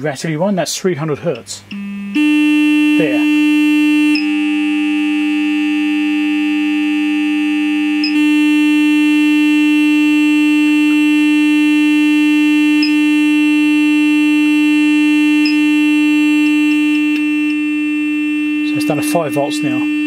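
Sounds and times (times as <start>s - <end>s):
rattly speaker buzz: 1.7s - 20.0s
sine test tone: 1.7s - 20.0s.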